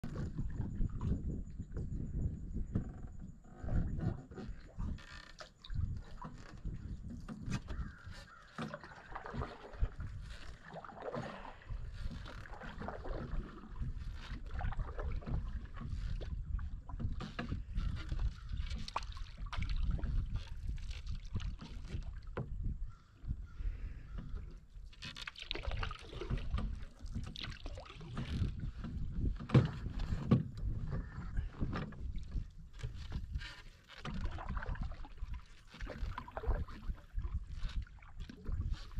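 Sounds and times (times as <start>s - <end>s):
water washing along hull: 0.0s - 38.9s
paddle strokes swishing and dripping: 3.6s - 38.9s
light knocks against canoe: 3.7s - 23.0s, 24.1s - 38.9s.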